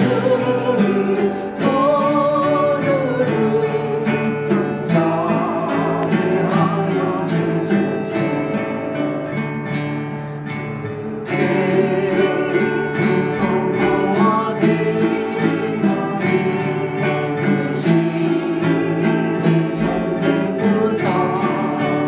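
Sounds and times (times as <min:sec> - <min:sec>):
acoustic guitar and harp hymn: 0:00.0 - 0:22.0.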